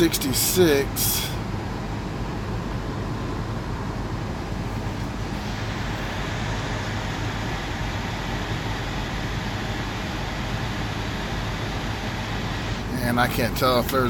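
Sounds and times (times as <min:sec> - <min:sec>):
air blower rushing: 0:00.0 - 0:14.0
engine idling hum: 0:00.0 - 0:14.0.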